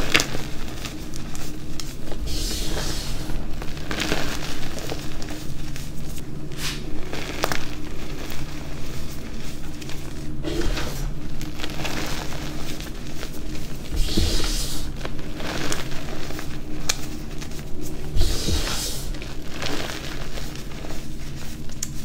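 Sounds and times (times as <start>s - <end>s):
chalk powder crunching: 0.0s - 22.0s.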